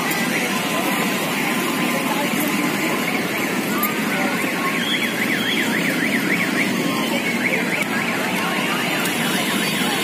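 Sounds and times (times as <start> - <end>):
background hubbub: 0.0 - 10.0.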